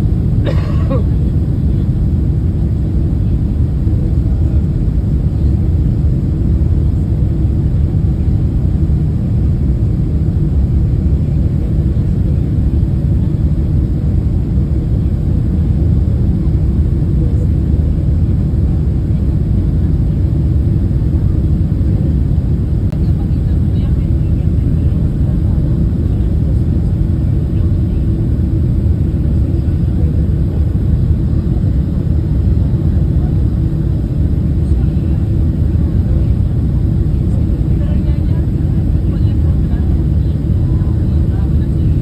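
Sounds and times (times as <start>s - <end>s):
airplane engines rumbling: 0.0s - 42.0s.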